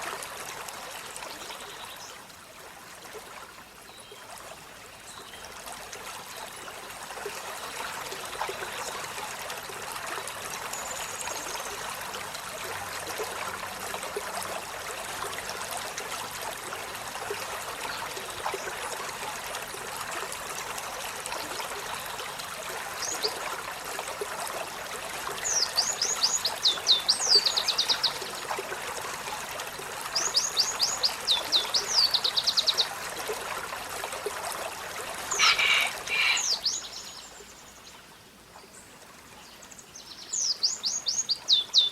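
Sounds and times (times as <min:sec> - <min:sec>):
running water: 0:00.0 - 0:41.9.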